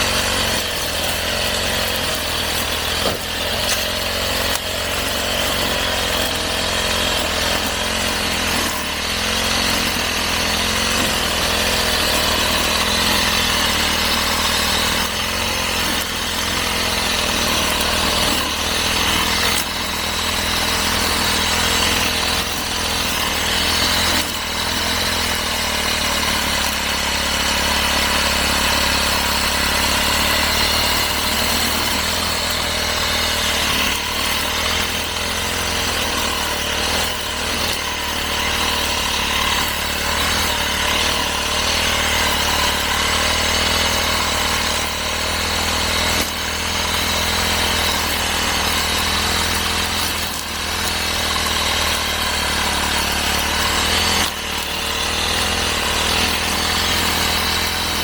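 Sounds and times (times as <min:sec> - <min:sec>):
brush cutter engine cutting grass: 0:00.0 - 0:58.0.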